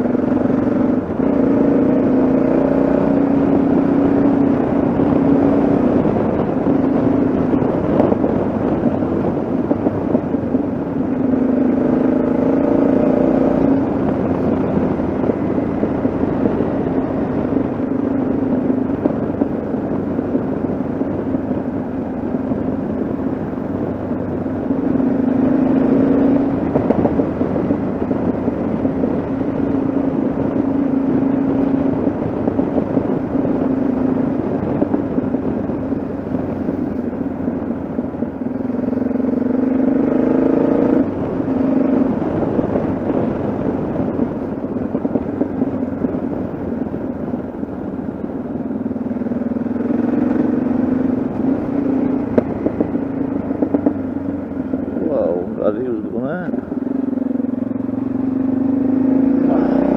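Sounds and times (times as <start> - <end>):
motorcycle engine running: 0.0 - 59.9
wind and road rush: 0.0 - 59.9.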